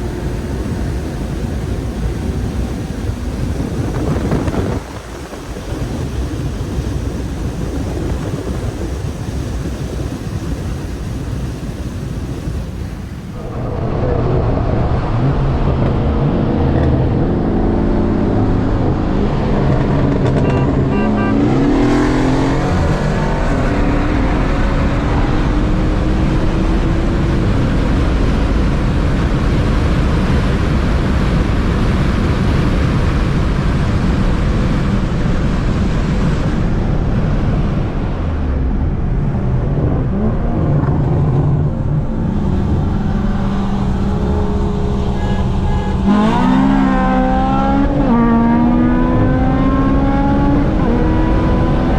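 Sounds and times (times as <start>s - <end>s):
car engine accelerating: 0.0s - 11.4s, 13.3s - 51.9s
road and wind noise: 0.0s - 51.9s.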